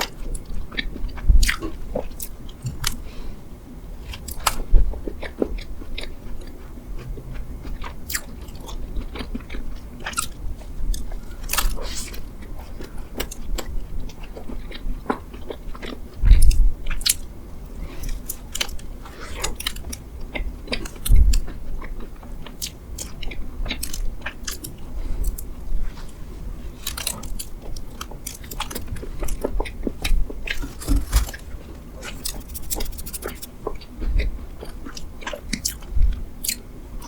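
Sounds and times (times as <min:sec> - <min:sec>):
biting and chewing bread: 0:00.0 - 0:03.0, 0:04.0 - 0:37.0.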